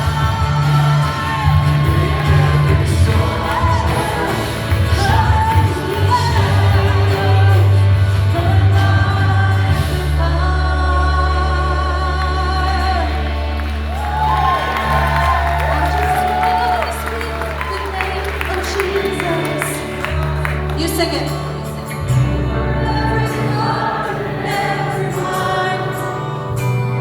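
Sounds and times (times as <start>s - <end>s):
people singing: 0.0s - 14.0s, 18.0s - 27.0s
band with strong bass: 0.0s - 27.0s.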